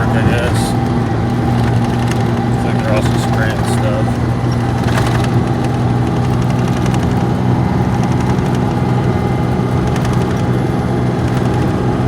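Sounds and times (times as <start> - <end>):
car engine hum: 0.0 - 12.0
road and tyre noise: 0.0 - 12.0.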